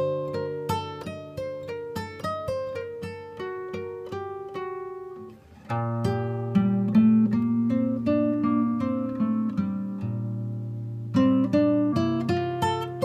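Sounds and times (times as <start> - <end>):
acoustic guitar plucked notes: 0.0 - 13.0.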